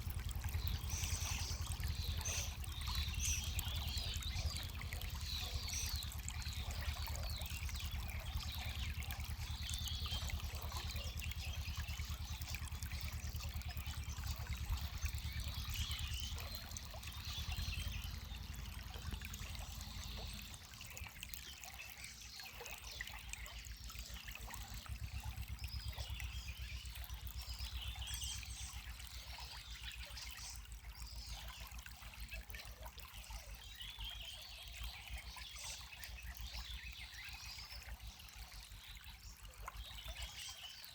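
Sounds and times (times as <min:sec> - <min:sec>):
small birds chirping: 0:00.0 - 0:40.9
water trickling and splashing: 0:00.0 - 0:40.9.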